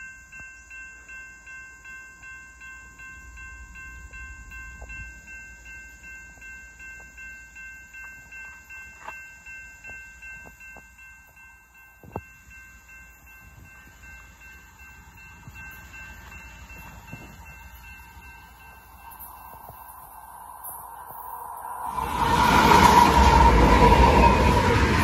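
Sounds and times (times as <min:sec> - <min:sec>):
crossing warning bell ringing: 0:00.0 - 0:25.0.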